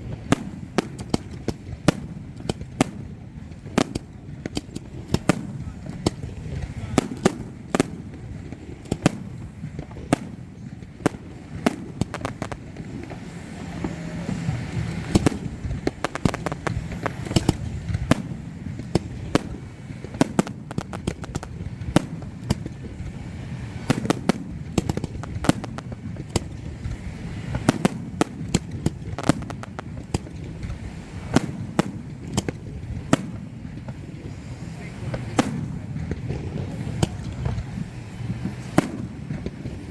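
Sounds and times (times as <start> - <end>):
fireworks bangs and pops: 0.0 - 39.9
low background noise: 0.0 - 39.9.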